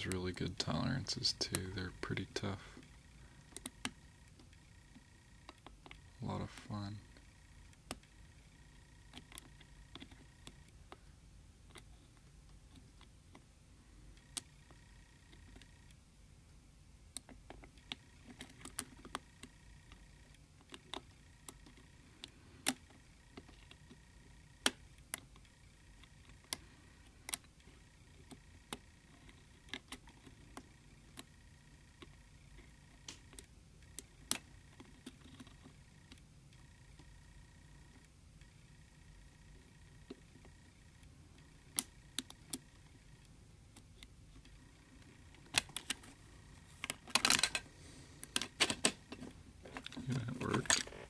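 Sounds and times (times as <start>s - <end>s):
faint low hum: 0.0s - 51.0s.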